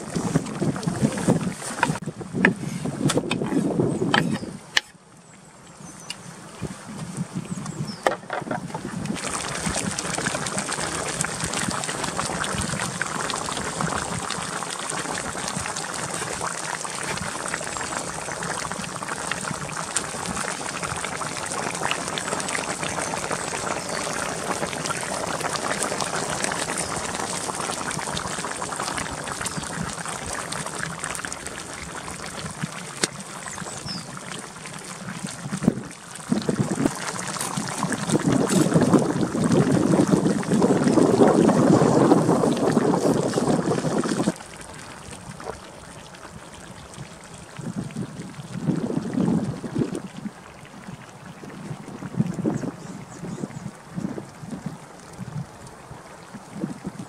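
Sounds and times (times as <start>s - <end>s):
sauce bubbling in a pan: 5.8s - 57.0s.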